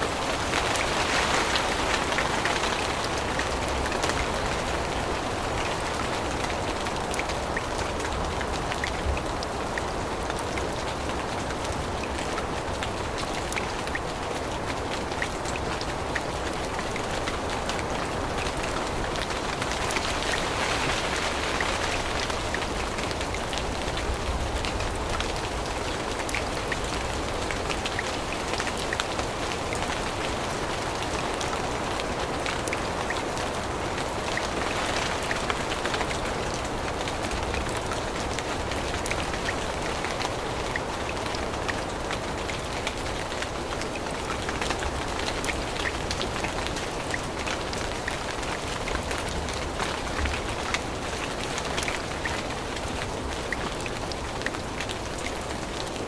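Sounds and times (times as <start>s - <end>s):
rain falling through foliage: 0.0s - 56.0s.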